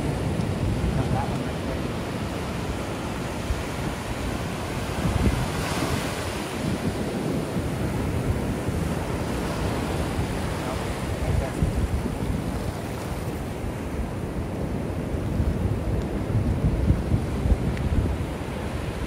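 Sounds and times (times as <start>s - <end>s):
ocean surf breaking: 0.0s - 19.0s
wind rumbling on microphone: 0.0s - 19.0s.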